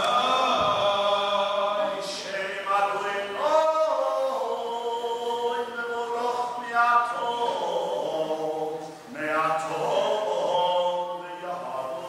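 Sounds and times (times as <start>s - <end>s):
male voice chanting prayer: 1.6s - 12.0s.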